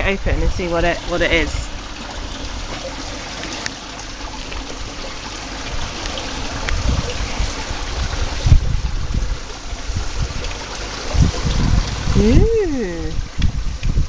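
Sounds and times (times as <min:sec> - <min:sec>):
trickling water: 0:00.0 - 0:14.0.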